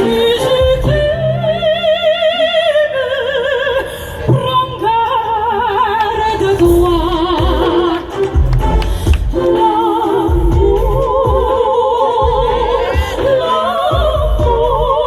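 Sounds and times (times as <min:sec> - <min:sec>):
sopranos singing opera: 0:00.0 - 0:15.0.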